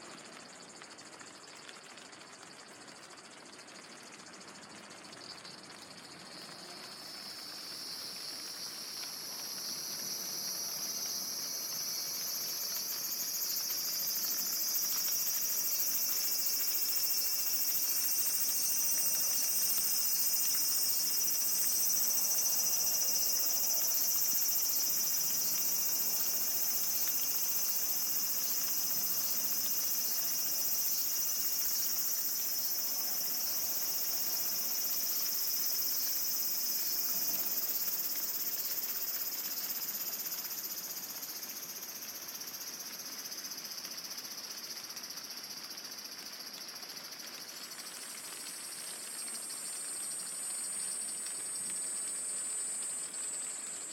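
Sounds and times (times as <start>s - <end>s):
insects chorus: 0.0s - 53.9s.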